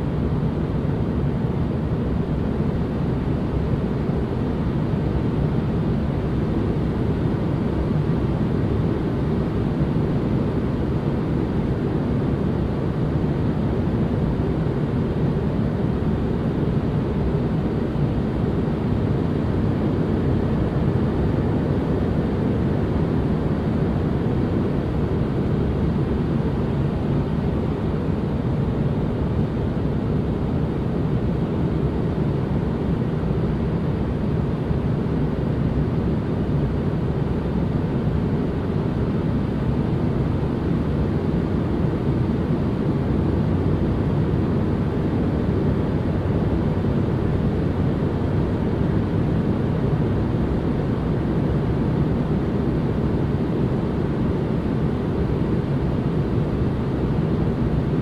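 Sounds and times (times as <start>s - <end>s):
deep even white noise rush: 0.0s - 58.0s.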